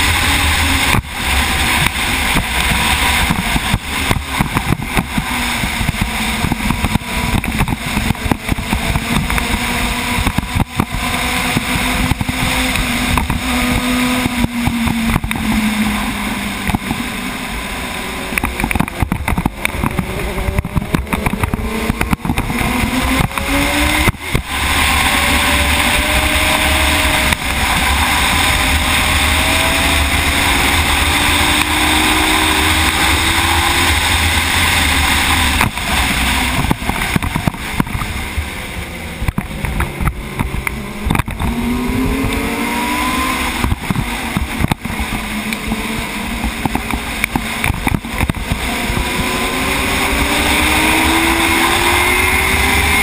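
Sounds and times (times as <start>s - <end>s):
motorcycle engine revving: 0.0s - 53.0s
wind buffeting microphone: 0.0s - 53.0s.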